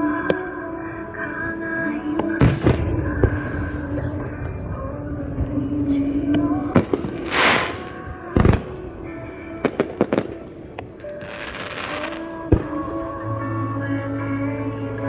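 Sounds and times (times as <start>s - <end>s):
fireworks bangs: 0.0s - 13.5s
fireworks crackling: 0.0s - 14.6s
background music: 0.0s - 15.0s.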